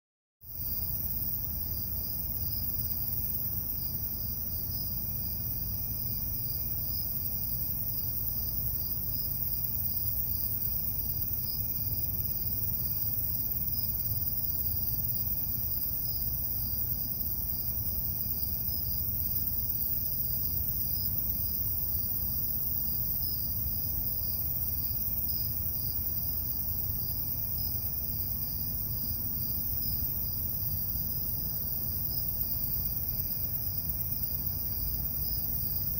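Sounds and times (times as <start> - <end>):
crickets and katydids trilling: 0.5 - 35.9.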